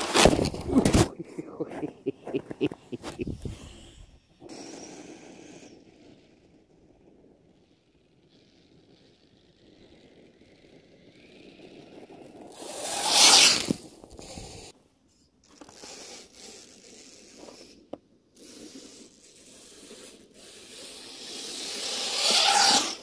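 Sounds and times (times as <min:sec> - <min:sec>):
tyres churning through snow: 0:00.0 - 0:14.8, 0:18.4 - 0:23.0.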